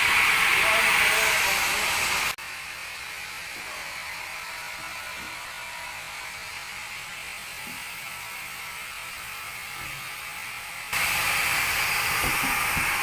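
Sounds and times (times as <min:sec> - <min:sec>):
band saw running: 0:00.0 - 0:13.0.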